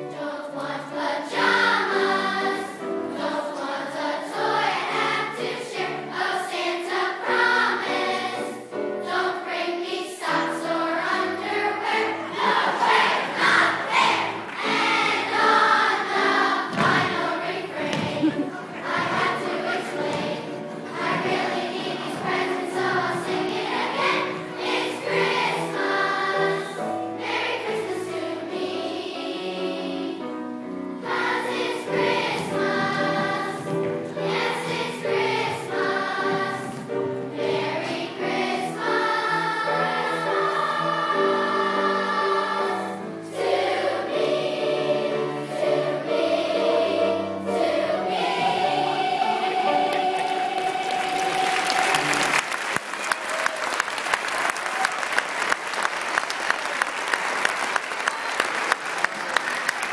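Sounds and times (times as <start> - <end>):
choir singing in harmony: 0.0 - 53.2.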